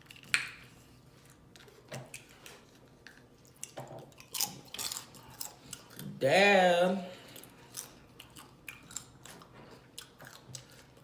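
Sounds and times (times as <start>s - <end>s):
wet chewing and lip smacking: 0.0s - 6.2s, 7.3s - 11.0s.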